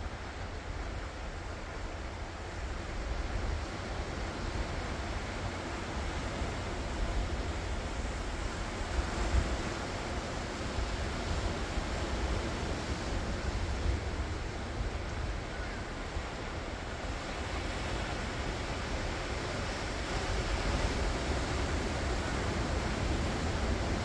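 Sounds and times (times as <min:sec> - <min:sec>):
ocean waves washing ashore: 0:00.0 - 0:24.0.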